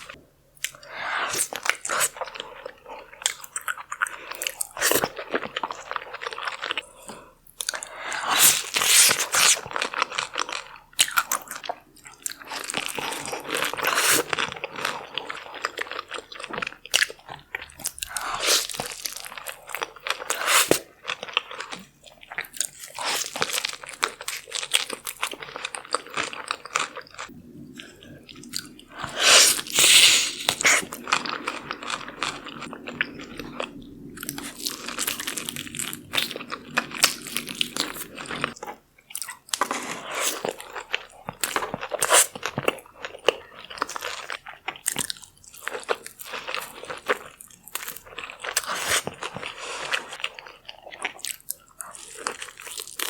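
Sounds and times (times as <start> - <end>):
person crunching and chewing: 0.0 - 53.0.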